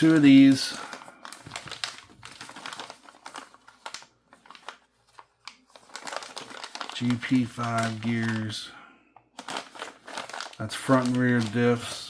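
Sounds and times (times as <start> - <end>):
plastic parts clicking and crinkling: 0.0 - 12.0.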